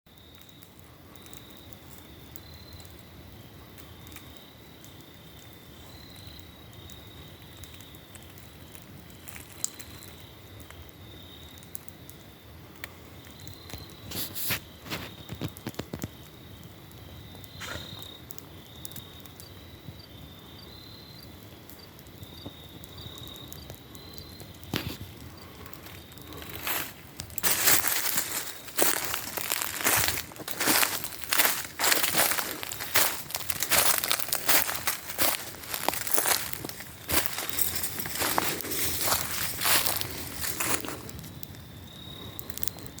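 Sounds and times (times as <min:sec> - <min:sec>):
campfire crackling: 0:00.1 - 0:43.0
crickets chirping: 0:00.1 - 0:43.0.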